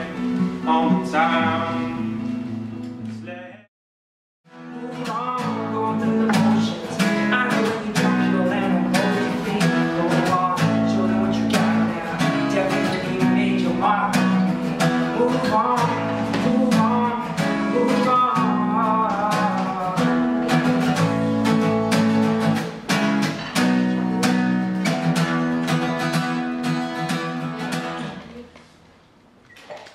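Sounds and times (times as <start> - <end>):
acoustic guitar strumming chords: 0.0 - 3.3, 4.5 - 28.4.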